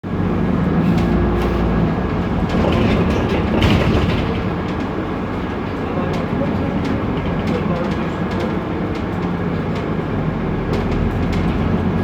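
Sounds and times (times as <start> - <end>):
diesel engine low rumble: 0.0 - 12.0.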